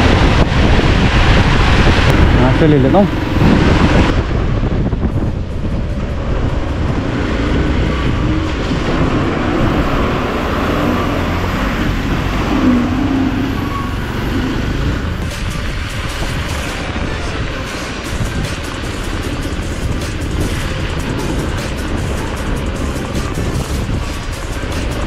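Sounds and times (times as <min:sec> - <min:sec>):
tyres through mud and water: 0:00.0 - 0:04.8, 0:05.4 - 0:25.0
motorcycle engine running: 0:00.0 - 0:25.0.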